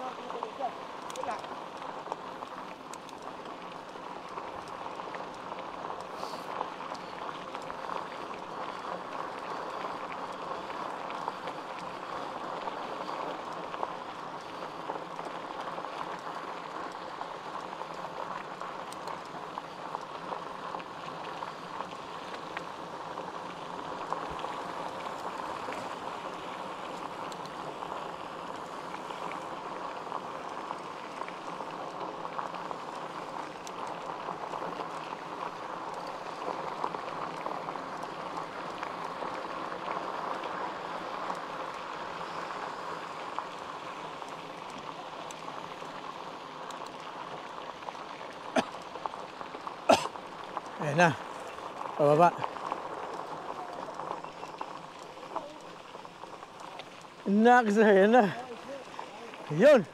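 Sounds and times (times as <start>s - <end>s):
bike tyres crackling on dirt: 0.0s - 59.9s
small clicks from grit and bike: 0.0s - 59.9s.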